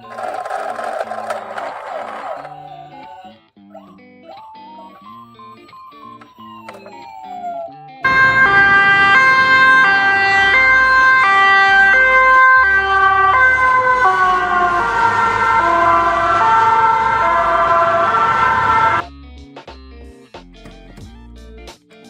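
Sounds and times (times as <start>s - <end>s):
ambulance two-tone siren: 0.1s - 19.0s.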